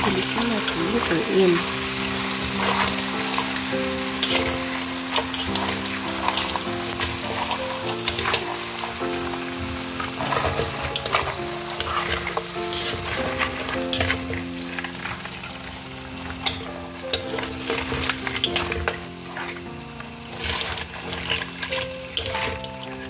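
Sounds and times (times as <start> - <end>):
crab sizzling in a pan: 0.0 - 23.0
soft piano music: 0.0 - 23.0
metal spatula scraping a pan: 0.2 - 23.0.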